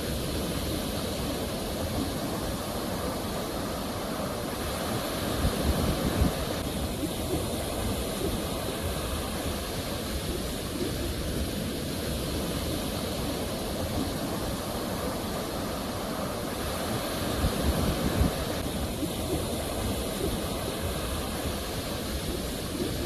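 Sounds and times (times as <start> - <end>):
sea waves surf rushing: 0.0 - 23.0.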